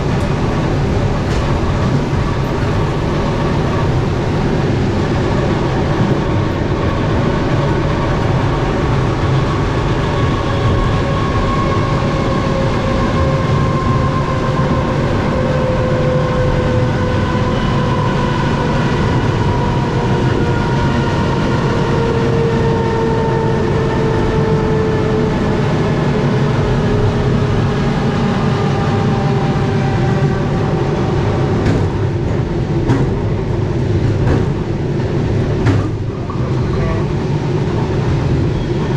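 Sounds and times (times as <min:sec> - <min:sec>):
train wheels rumbling on rails: 0:00.0 - 0:38.9
train whine: 0:00.0 - 0:38.9.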